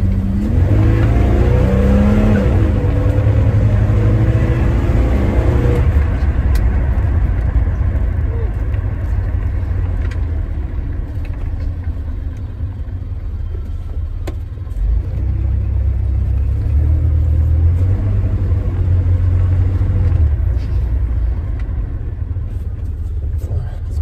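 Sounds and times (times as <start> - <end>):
engine and road rumble in cab: 0.0 - 24.0.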